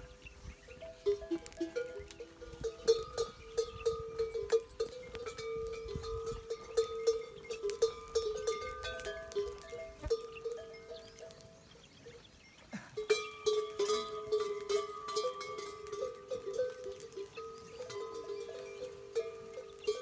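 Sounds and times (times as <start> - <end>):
camel bells clanking: 0.0 - 12.2, 12.9 - 20.0.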